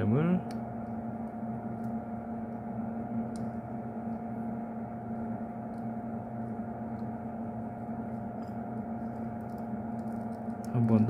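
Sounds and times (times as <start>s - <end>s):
electrical hum with hiss: 0.0s - 11.0s.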